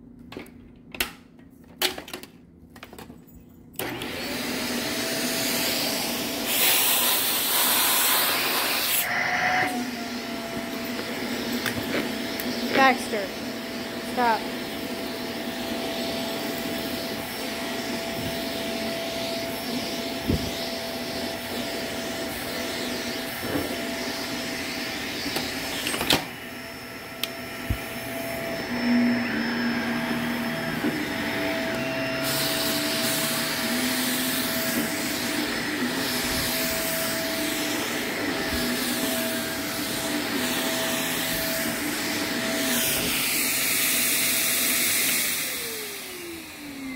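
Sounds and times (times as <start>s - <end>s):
vacuum cleaner running: 3.8s - 46.9s.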